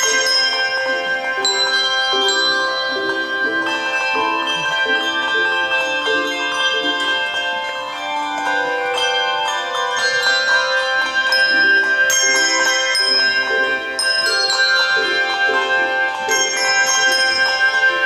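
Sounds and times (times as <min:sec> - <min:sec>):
handbell choir ringing: 0:00.0 - 0:18.0.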